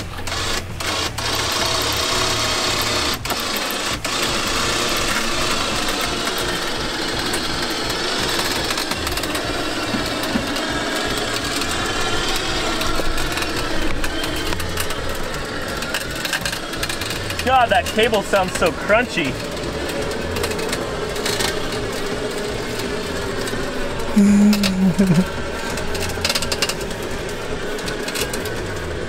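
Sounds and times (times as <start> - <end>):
cable crunching on drum: 0.0 - 24.0, 25.0 - 28.9
electric winch motor whining: 0.0 - 29.0.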